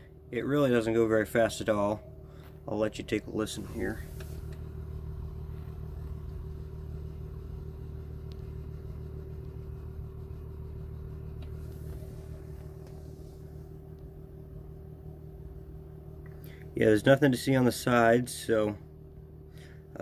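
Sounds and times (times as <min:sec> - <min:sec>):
heater blower fan humming and whining: 0:00.0 - 0:20.0.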